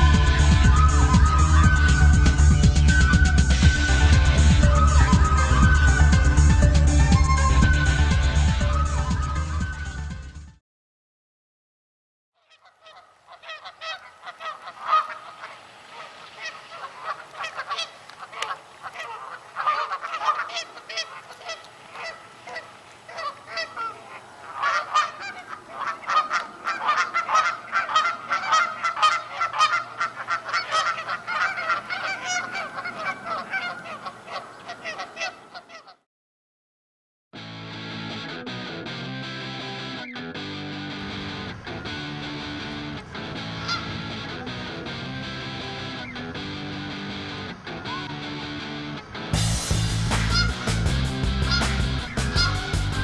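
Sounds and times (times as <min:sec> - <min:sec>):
geese honking: 0:00.0 - 0:10.0, 0:12.4 - 0:36.0, 0:41.0 - 0:48.8, 0:49.4 - 0:53.0.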